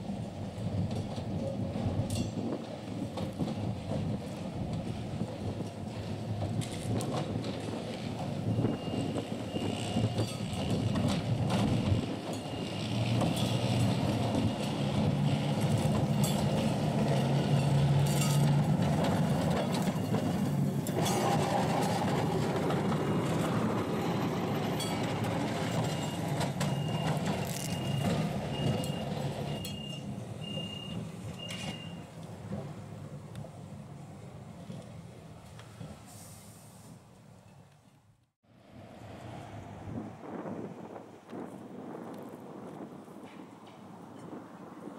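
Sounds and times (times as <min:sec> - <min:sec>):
electric tram passing: 0:00.0 - 0:36.1, 0:38.5 - 0:44.9.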